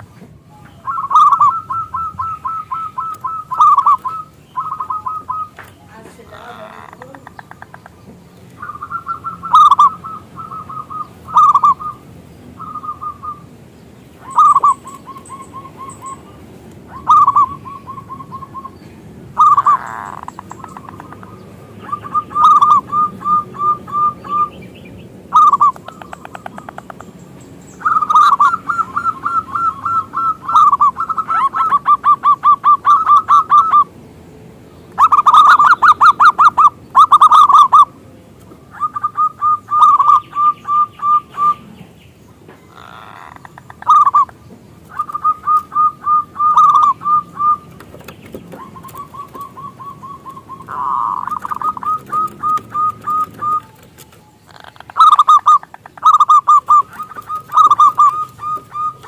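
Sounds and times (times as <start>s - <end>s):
doves cooing: 0.0s - 34.0s, 34.9s - 59.0s.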